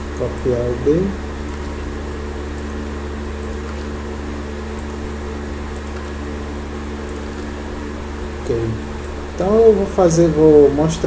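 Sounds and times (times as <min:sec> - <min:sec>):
low electrical hum with high tones: 0:00.0 - 0:11.0.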